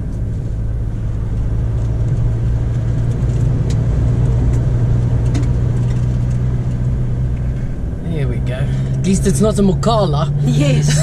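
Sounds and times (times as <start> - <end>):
engine and tyre drone: 0.0 - 11.0.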